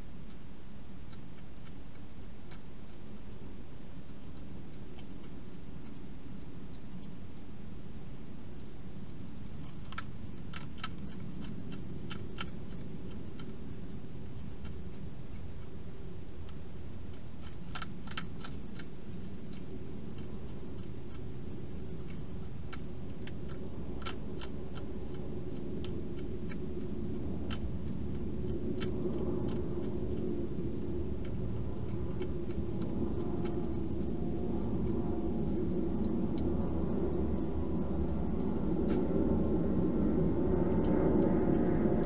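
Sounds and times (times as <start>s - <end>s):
hedgehog crunching dry food: 0.0s - 42.0s
low rumble: 0.0s - 42.0s.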